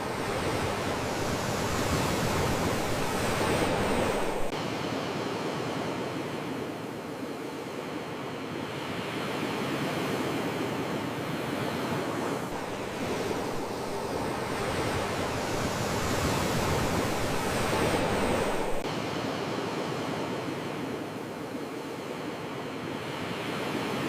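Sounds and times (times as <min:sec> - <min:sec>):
sea waves washing ashore: 0:00.0 - 0:24.0.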